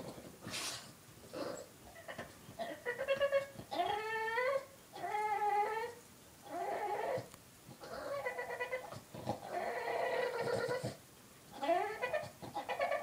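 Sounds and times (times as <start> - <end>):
dog whining: 0.5 - 13.0.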